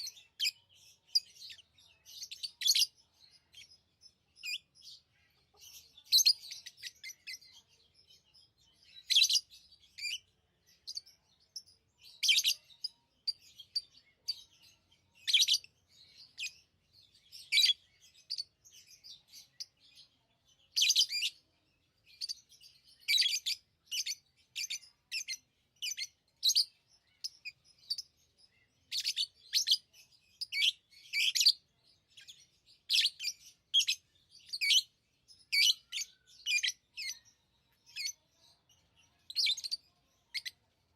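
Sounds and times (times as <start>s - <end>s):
lovebirds chirping: 0.0s - 40.9s.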